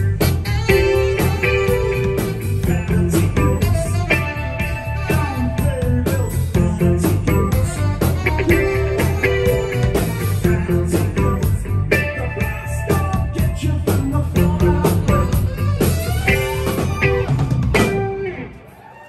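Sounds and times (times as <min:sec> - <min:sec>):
live pop-rock band: 0:00.0 - 0:19.0.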